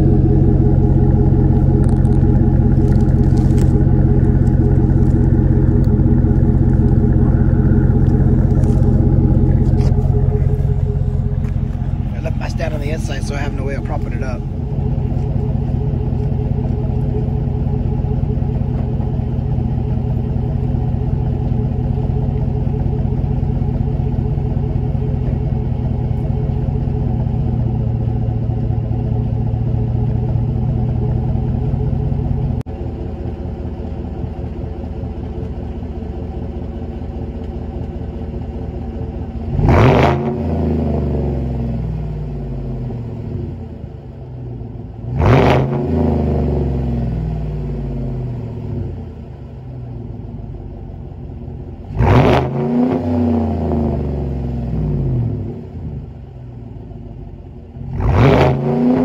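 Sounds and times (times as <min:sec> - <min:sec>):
truck engine idling and revving: 0:00.0 - 0:59.0.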